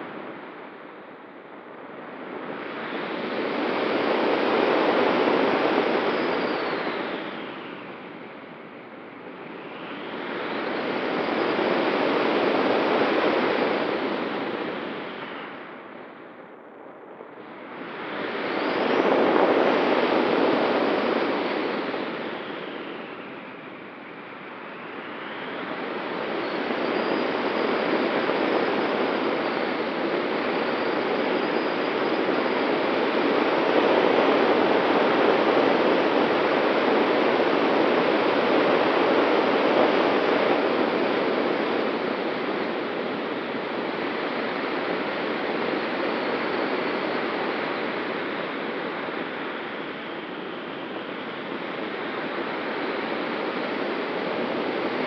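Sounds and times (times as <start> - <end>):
wind noise roar: 0.0 - 55.0
faint steady whistle: 0.2 - 55.0.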